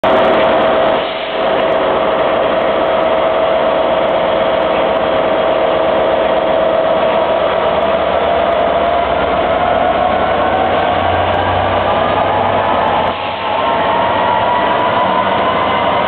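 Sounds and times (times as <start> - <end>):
diesel locomotive engine running: 0.0 - 16.0
steady high whine: 0.0 - 16.0.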